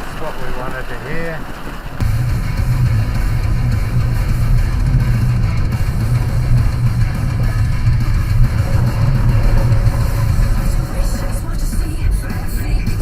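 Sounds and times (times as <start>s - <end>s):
rock music with guitar: 2.0s - 13.0s.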